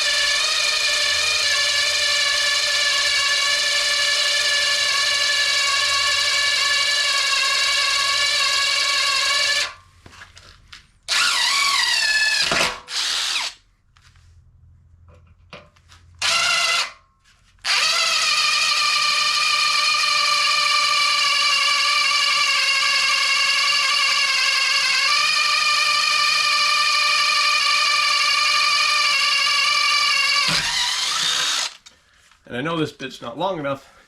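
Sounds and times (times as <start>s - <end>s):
electric drill whining: 0.0s - 9.8s, 11.1s - 13.6s, 16.2s - 17.0s, 17.6s - 32.0s.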